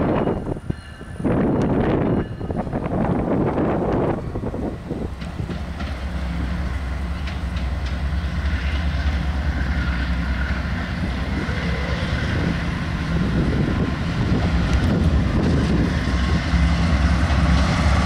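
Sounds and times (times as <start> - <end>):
diesel locomotive engine rumble: 0.0 - 18.0
wheels clicking on rails: 0.0 - 18.0.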